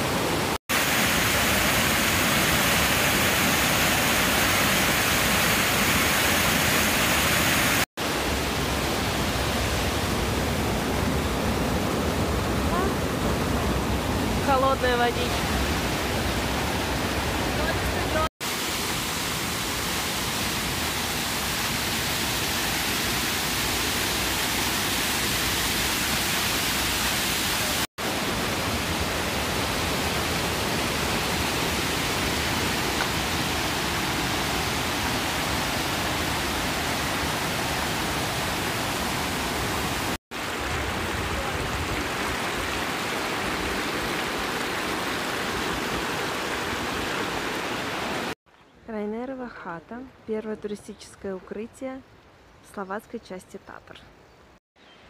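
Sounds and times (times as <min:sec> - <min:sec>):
stream rushing over boulders: 0:00.0 - 0:48.4.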